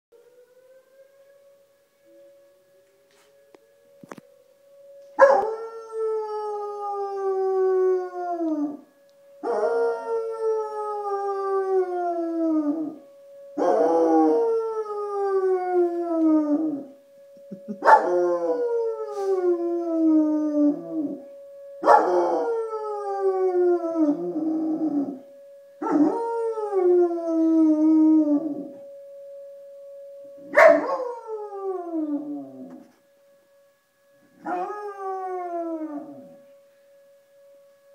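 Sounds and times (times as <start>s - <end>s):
storm warning siren: 0.1s - 37.9s.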